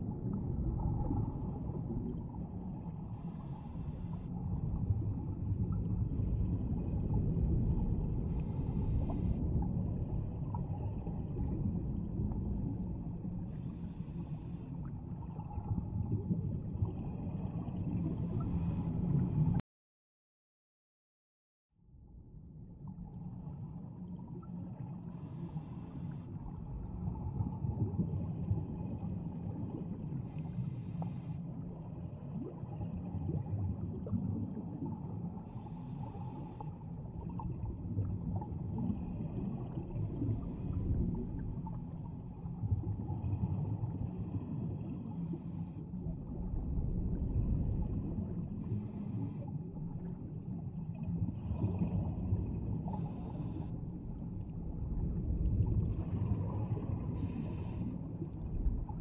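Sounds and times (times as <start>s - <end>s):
exhaled bubbles underwater: 0.0s - 19.6s, 22.8s - 59.0s
low underwater rumble: 0.0s - 19.6s, 21.9s - 59.0s.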